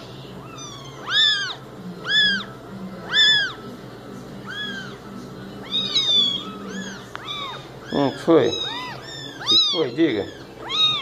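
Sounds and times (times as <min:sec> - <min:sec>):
kittens meowing: 0:00.4 - 0:03.6, 0:04.4 - 0:11.0.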